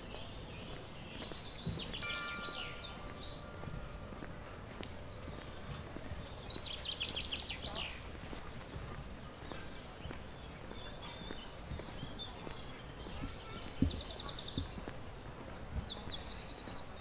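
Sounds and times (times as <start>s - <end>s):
footsteps on paved path: 0.0s - 17.0s
songbirds singing: 0.0s - 17.0s.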